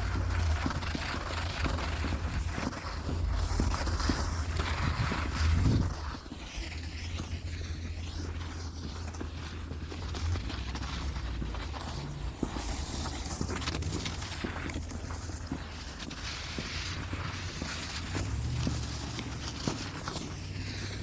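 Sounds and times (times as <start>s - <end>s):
footsteps crunching in snow: 0.0s - 21.0s
wind rumble on microphone: 0.0s - 21.0s.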